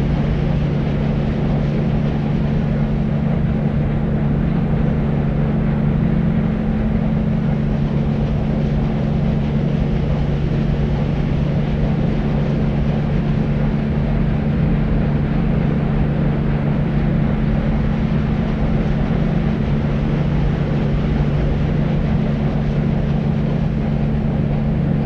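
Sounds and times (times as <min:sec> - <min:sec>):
constant low hum: 0:00.0 - 0:25.0.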